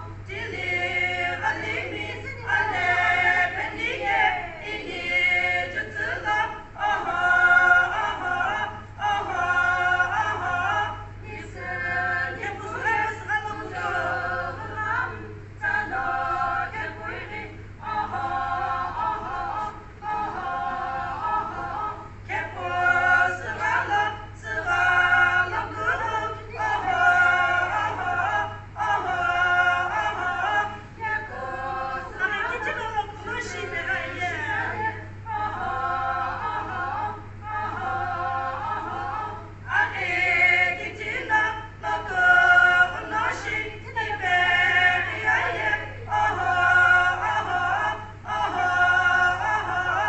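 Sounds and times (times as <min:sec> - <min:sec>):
women singing together: 0:00.0 - 0:50.0.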